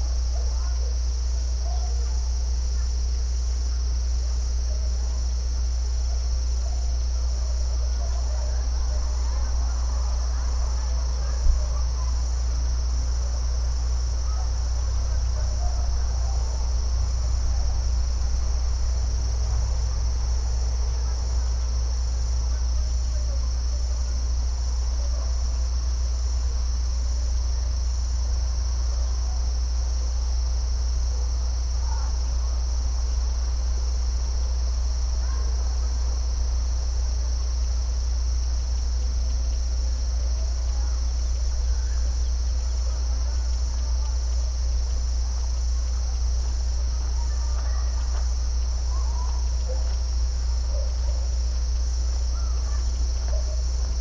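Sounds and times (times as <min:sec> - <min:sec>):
crickets chirping: 0:00.0 - 0:54.0
faint scattered calls: 0:00.0 - 0:54.0.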